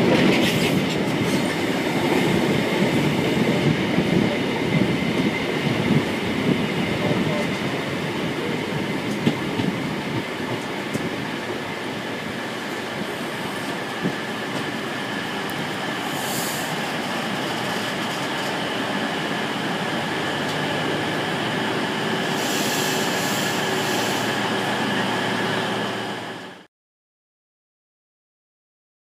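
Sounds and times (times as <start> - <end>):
train wheels rumbling: 0.0 - 26.6.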